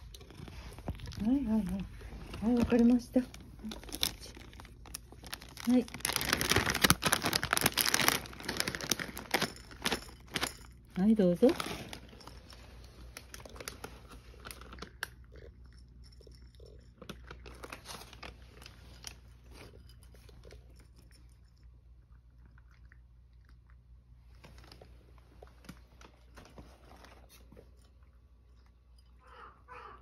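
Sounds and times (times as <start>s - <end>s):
cat crunching dry treats: 0.0s - 28.9s.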